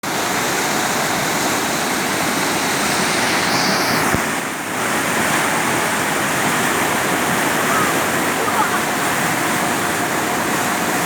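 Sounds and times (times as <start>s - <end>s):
rainwater rushing: 0.0s - 11.0s.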